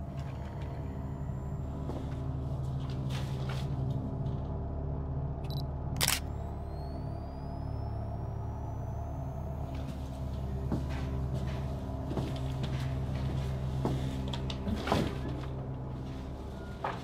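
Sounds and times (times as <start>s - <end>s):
low steady drone: 0.0s - 17.0s.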